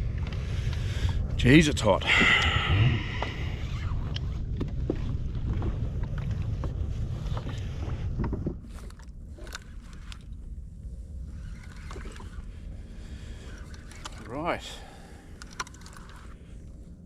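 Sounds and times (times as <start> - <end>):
wind buffeting microphone: 0.0 - 14.5
water lapping against hull: 1.9 - 17.0.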